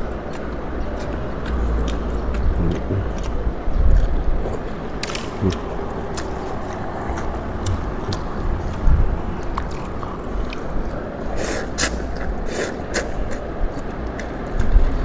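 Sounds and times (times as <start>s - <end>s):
person chewing noodles: 0.0s - 15.0s
loud mouth smacks: 0.4s - 14.9s.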